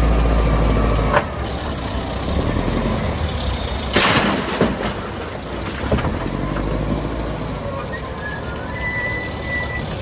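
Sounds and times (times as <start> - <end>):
diesel machinery rumbling: 0.0 - 10.0.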